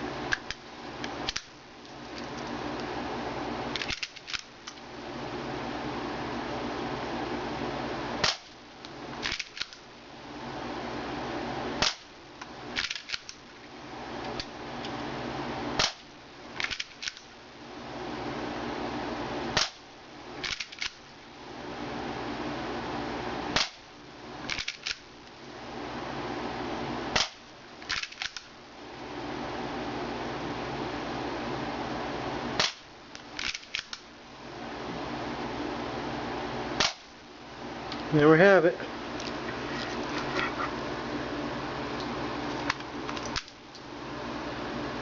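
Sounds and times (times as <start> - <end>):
steady background hiss: 0.0 - 45.0.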